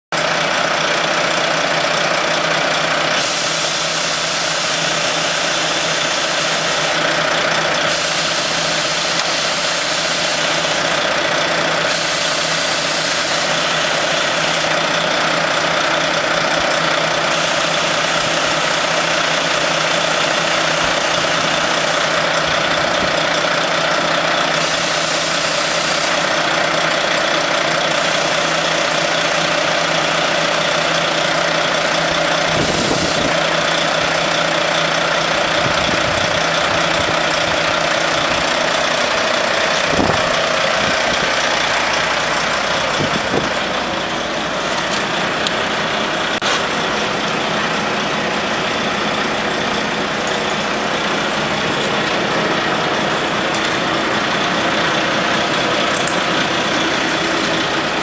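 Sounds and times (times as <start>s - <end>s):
truck diesel engine idling: 0.1s - 58.0s.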